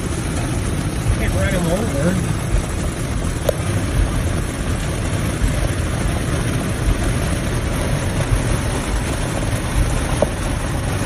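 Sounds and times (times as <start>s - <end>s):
engine idling: 0.0s - 11.0s
heavy rain on vehicle roof: 0.0s - 11.0s.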